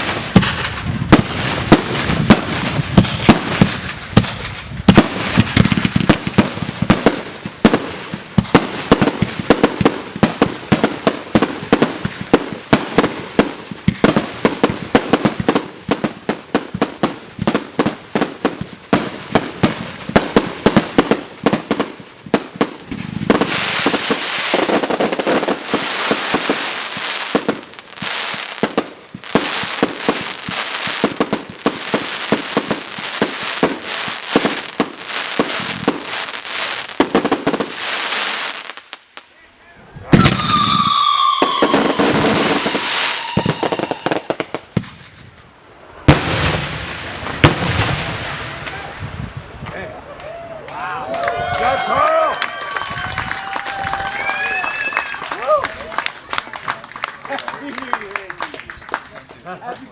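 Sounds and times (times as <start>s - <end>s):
fireworks hissing crackle: 0.0s - 50.8s
fireworks bangs: 0.0s - 59.9s.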